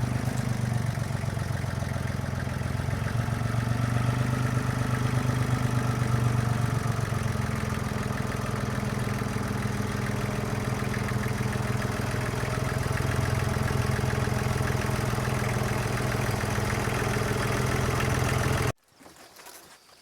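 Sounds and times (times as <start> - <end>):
tractor diesel engine idling: 0.0 - 18.8.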